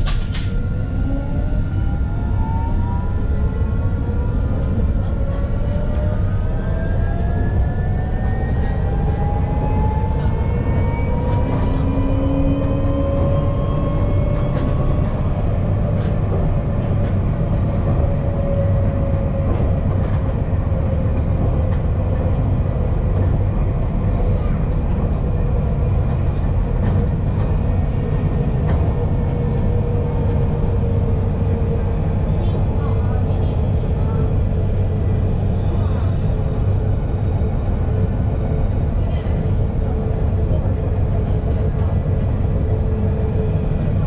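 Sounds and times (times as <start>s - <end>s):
tram rumble: 0.0s - 44.0s.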